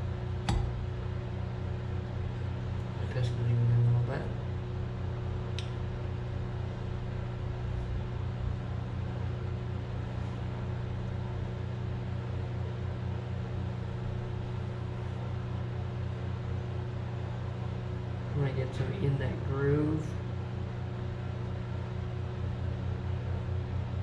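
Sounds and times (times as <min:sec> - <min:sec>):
machine humming and pulsing: 0:00.0 - 0:24.0.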